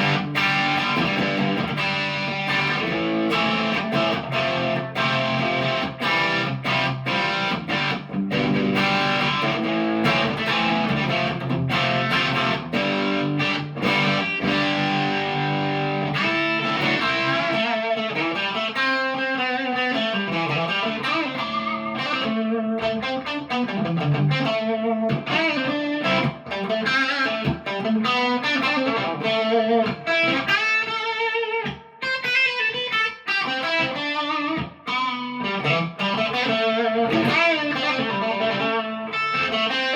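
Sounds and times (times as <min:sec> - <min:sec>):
electric guitar through amplifier: 0:00.0 - 0:39.9.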